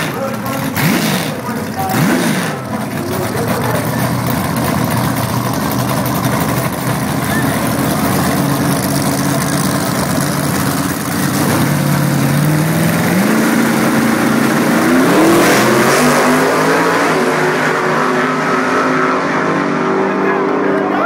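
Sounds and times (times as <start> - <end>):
drag racing car engines revving: 0.0 - 21.0.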